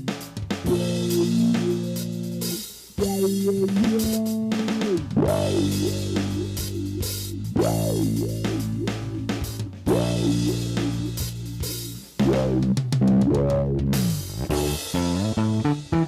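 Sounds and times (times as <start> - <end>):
rock drum kit: 0.0 - 16.0
bending guitar notes: 0.7 - 16.0.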